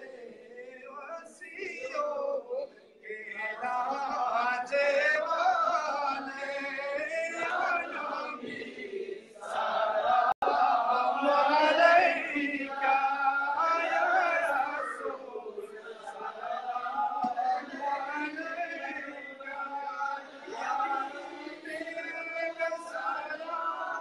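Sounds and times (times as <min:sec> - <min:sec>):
men singing together: 0:00.0 - 0:24.0.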